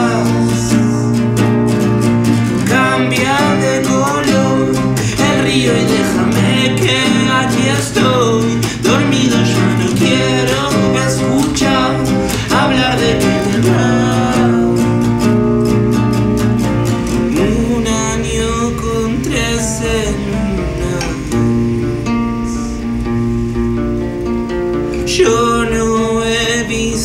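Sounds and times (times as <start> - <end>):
man singing: 0.0 - 1.4, 2.5 - 15.3, 17.2 - 22.9, 25.0 - 27.0
acoustic guitars strummed: 0.0 - 27.0.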